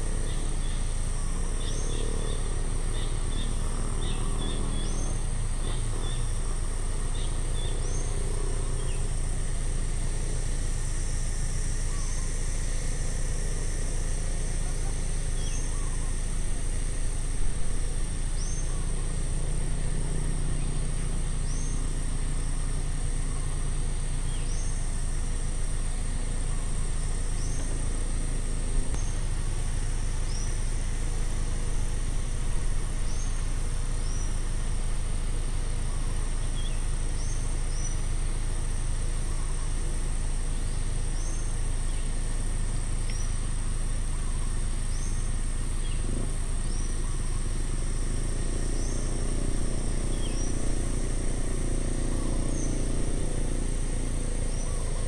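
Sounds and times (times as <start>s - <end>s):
high-pitched insect drone: 0.0s - 55.0s
low steady rumble: 0.0s - 55.0s.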